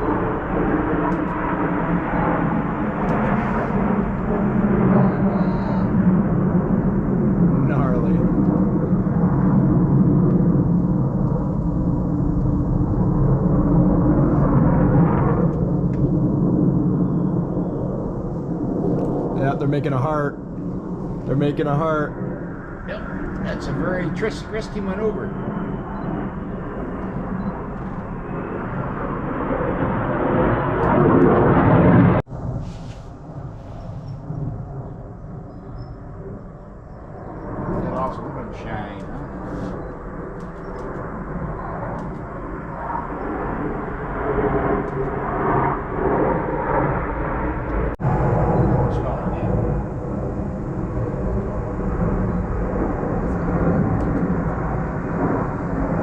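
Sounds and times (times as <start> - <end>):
aircraft engine roar: 0.0 - 56.0.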